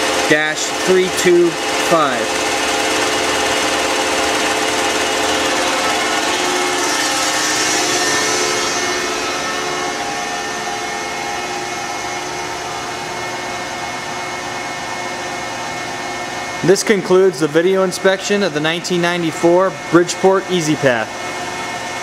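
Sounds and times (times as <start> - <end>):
machinery humming: 0.0 - 22.0.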